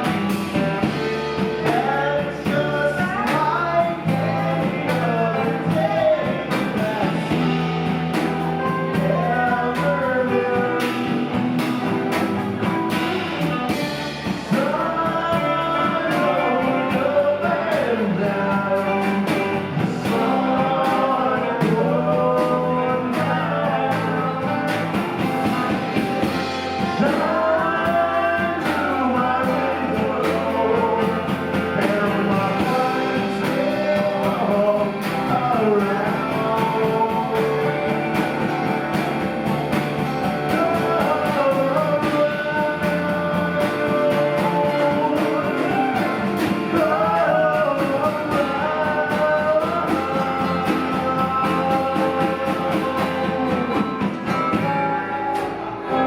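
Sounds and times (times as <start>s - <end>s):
lead guitar melody: 0.0s - 56.0s
rock band playing: 0.0s - 56.0s.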